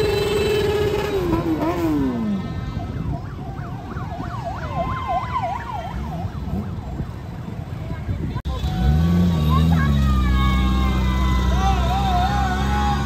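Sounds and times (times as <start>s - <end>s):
motorbike traffic rumble: 0.0s - 13.0s.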